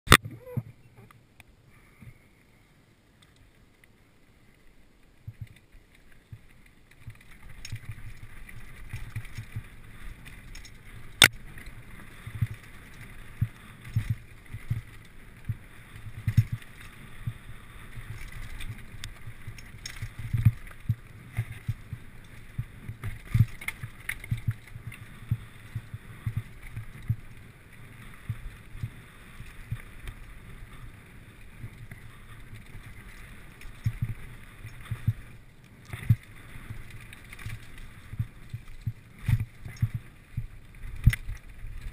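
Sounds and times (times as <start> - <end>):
bike tyres rumbling on dirt: 3.6 - 41.9.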